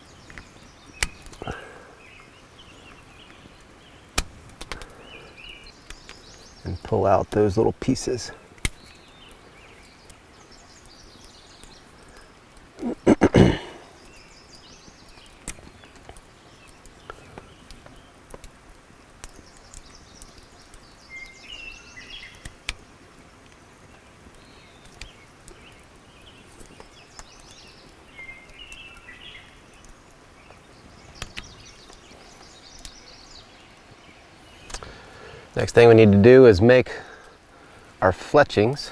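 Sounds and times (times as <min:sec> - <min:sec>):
bird chirping: 0:00.0 - 0:04.2, 0:04.8 - 0:18.2, 0:19.2 - 0:22.6, 0:23.9 - 0:37.4.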